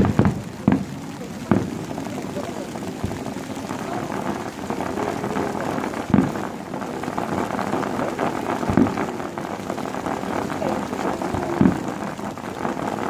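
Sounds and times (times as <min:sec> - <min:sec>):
deep fireworks booms: 0:00.0 - 0:13.0
fireworks crackling hiss: 0:00.0 - 0:13.0.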